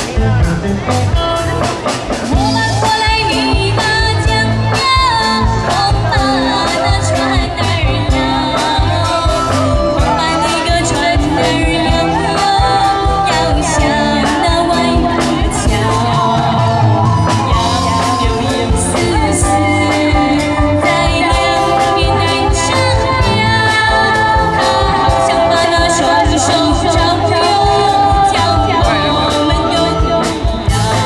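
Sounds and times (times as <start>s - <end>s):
bass: 0.0s - 31.0s
drum kit beat: 0.0s - 31.0s
electric guitar: 0.0s - 31.0s
woman singing into a microphone: 2.4s - 31.0s.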